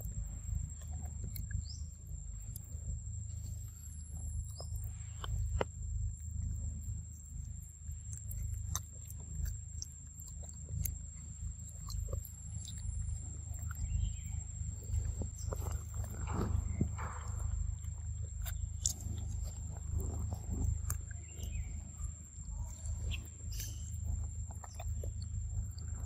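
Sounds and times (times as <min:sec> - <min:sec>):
low rumble: 0:00.0 - 0:26.0
monkey chewing fruit: 0:00.0 - 0:26.0.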